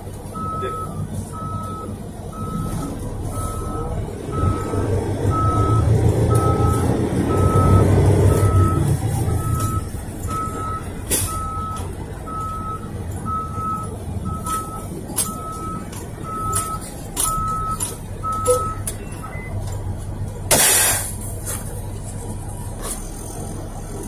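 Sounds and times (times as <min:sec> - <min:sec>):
diesel engine: 0:00.0 - 0:24.0
truck reverse alarm beeping: 0:00.1 - 0:19.8.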